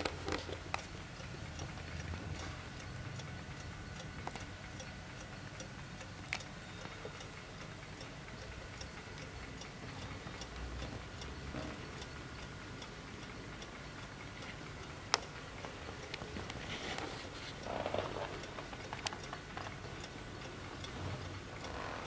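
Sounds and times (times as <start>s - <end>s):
wall clock ticking: 0.0s - 22.0s.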